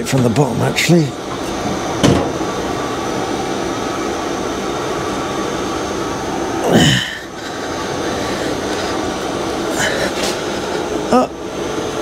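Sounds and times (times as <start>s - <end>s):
fan-like rushing noise: 0.0s - 12.0s.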